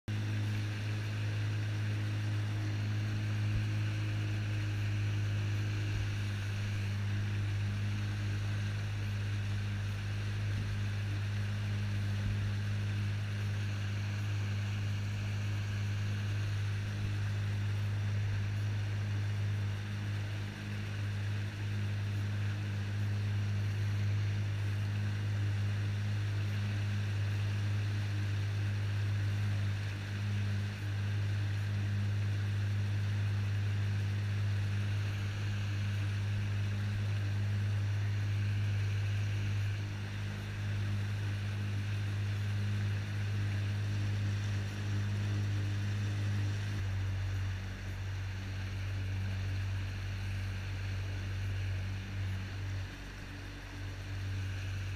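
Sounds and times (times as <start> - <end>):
jet ski engine drone: 0.1 - 54.9.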